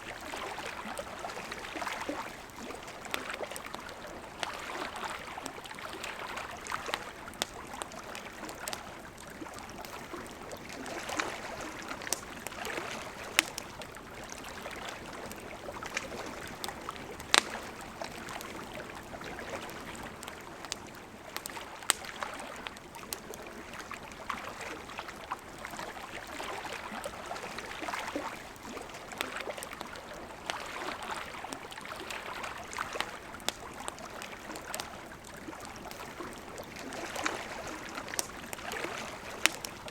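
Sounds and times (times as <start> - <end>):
river flowing: 0.0 - 39.9
campfire crackling and popping: 0.1 - 39.9.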